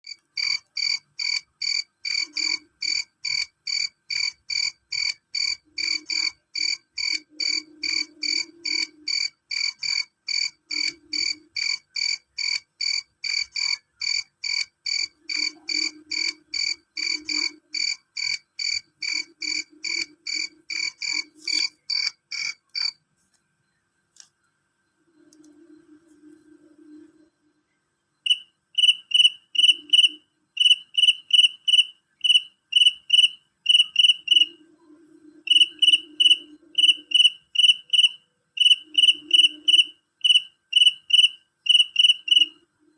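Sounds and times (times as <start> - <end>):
cricket chirping: 0.0 - 42.9
faint low hum: 0.1 - 42.9.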